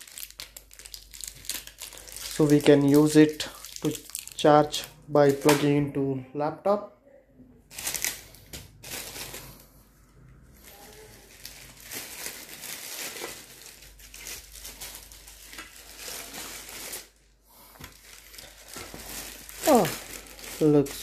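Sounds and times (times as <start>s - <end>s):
plastic bag crinkling: 0.0s - 5.7s, 7.7s - 9.7s, 10.6s - 17.2s, 17.8s - 21.0s.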